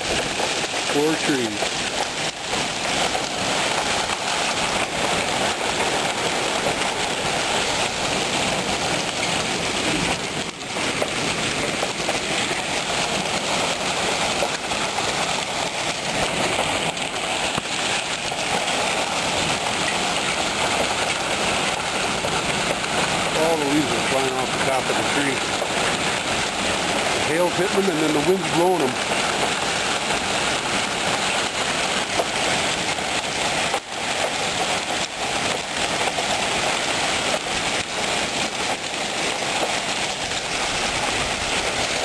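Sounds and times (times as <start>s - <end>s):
hail and heavy rain clattering: 0.0s - 42.0s.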